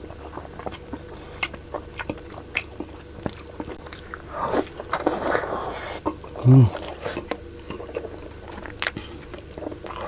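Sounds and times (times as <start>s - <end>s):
person chewing with wet smacks: 0.0s - 10.0s.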